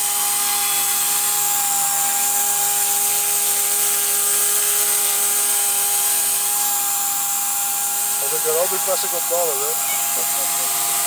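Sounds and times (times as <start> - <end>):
rc helicopter high whine: 0.0 - 11.0.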